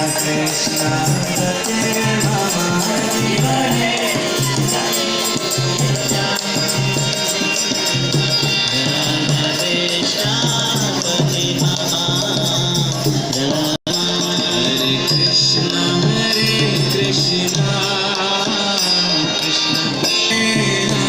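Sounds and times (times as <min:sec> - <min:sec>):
jingling hand cymbals: 0:00.0 - 0:21.0
voices chanting together: 0:00.0 - 0:21.0.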